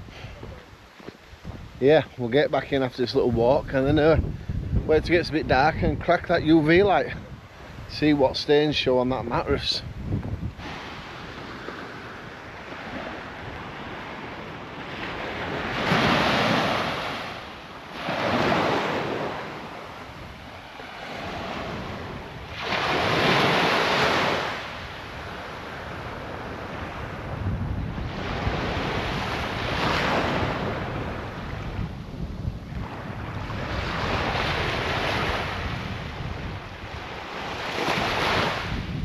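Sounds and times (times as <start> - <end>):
sea waves breaking on beach: 0.0 - 39.0
wind on microphone: 0.0 - 39.0.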